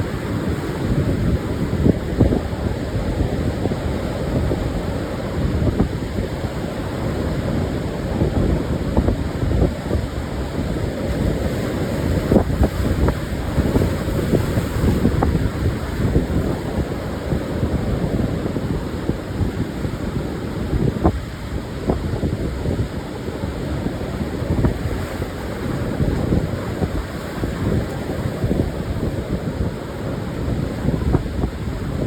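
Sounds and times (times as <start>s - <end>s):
surf washing onto beach: 0.0s - 32.0s
wind buffeting microphone: 0.0s - 32.0s.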